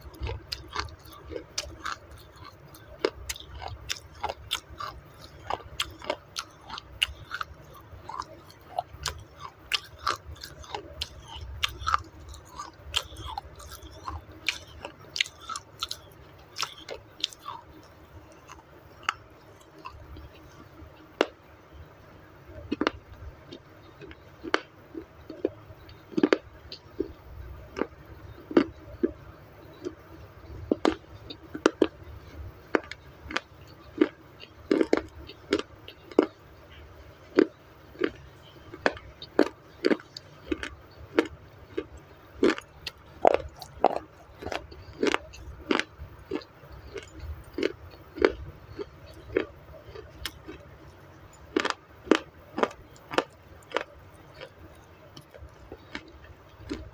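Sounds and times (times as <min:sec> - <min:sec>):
crunchy chewing: 0:00.0 - 0:56.9.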